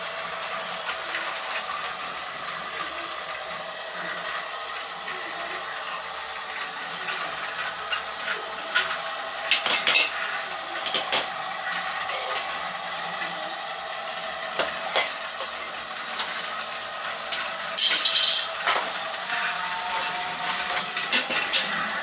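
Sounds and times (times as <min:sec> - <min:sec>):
toy train motor whirring: 0:00.0 - 0:22.0.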